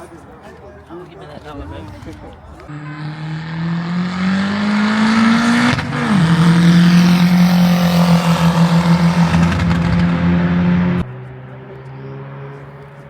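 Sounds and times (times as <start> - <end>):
car engine accelerating hard: 1.4 - 13.0.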